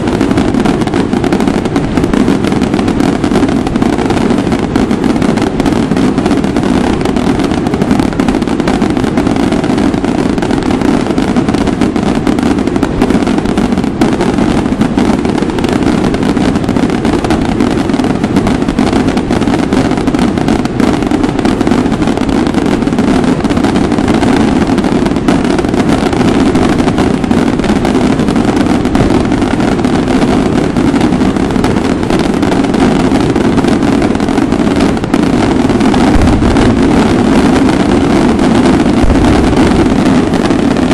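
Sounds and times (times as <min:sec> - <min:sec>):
firecrackers going off: 0:00.0 - 0:40.9.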